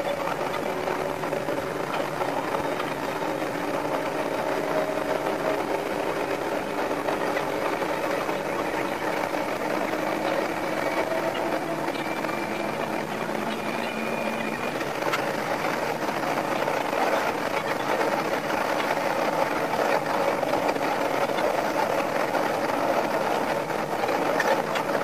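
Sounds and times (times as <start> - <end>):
faint drifting tones: 0.0 - 25.0
sped-up railcar mechanical drone: 0.0 - 25.0.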